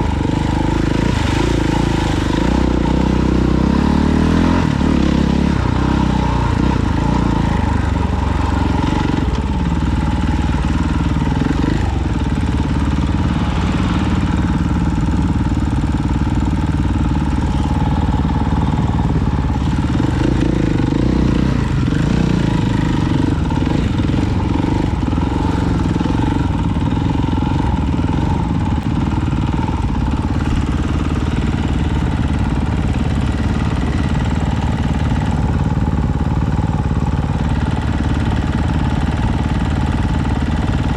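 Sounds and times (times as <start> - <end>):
off-road vehicle engine: 0.0 - 40.9.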